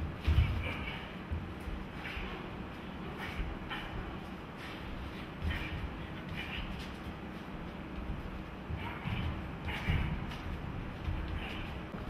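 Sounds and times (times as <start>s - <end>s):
rumbling background noise: 0.0s - 12.0s
shuffling footwork: 0.0s - 12.0s.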